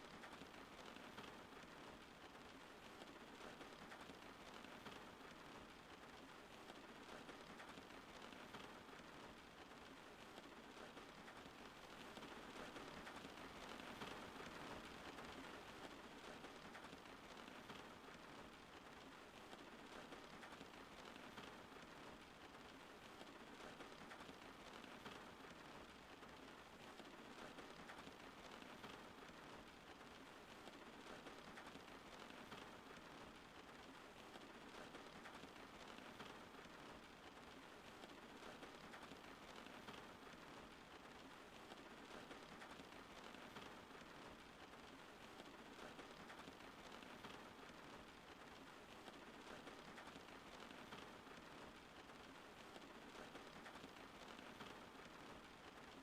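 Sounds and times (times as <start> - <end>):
faint steady rain: 0.0 - 56.0.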